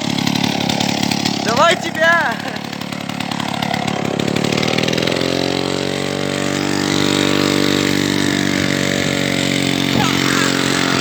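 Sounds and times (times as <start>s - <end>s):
two-stroke engine running: 0.0s - 11.0s.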